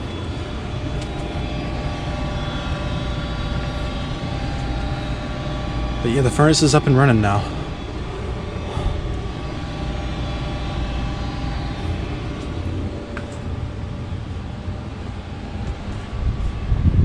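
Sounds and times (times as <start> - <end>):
faint steady hum: 0.0 - 17.0
furnace burner and blower drone: 0.0 - 17.0.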